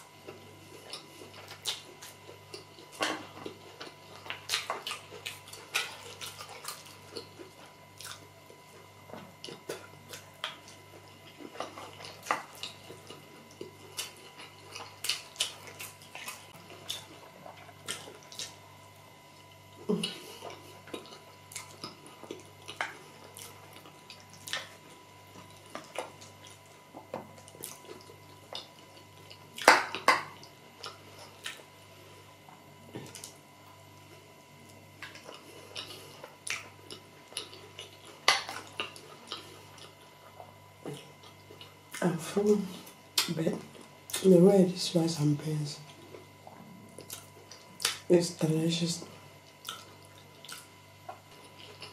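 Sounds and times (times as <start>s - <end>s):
wet chewing mouth sounds: 0.0s - 44.3s, 45.8s - 48.1s, 49.4s - 51.9s.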